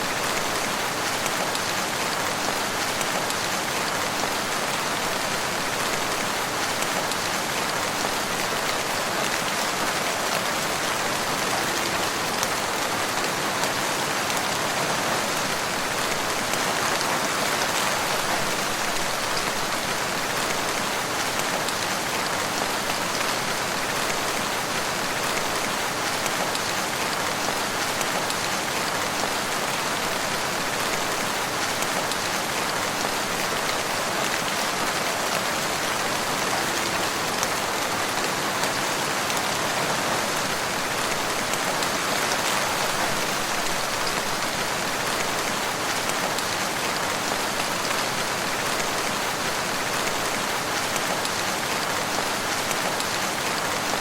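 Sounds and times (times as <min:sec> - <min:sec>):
rain pattering in forest: 0:00.0 - 0:54.0.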